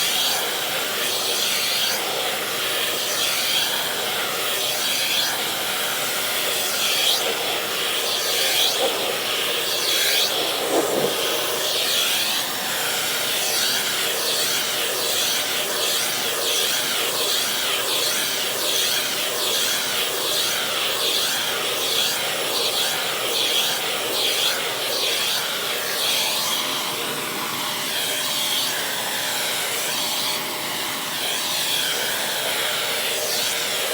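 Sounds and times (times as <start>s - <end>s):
vacuum cleaner running: 0.0s - 33.9s
vacuum nozzle hissing through fur: 0.0s - 33.9s.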